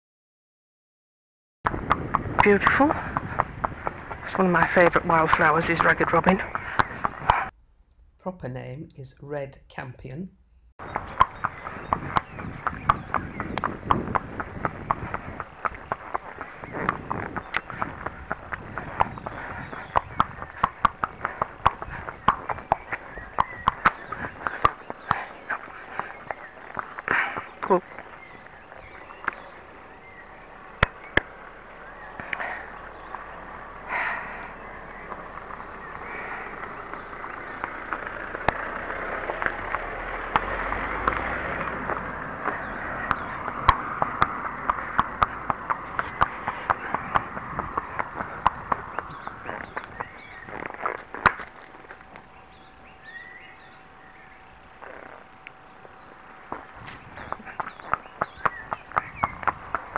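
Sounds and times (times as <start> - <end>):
horse hooves clip-clopping on pavement: 1.7 - 7.5, 10.8 - 59.9
small car passing slowly: 10.8 - 59.9.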